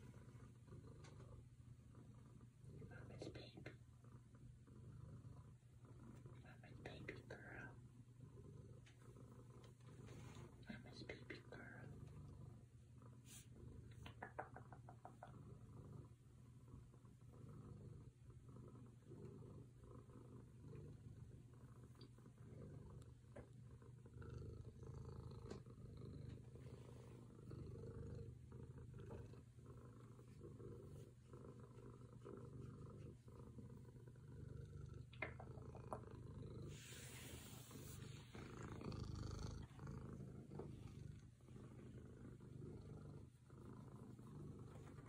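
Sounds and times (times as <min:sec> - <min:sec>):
cat purring: 0:00.0 - 0:45.0.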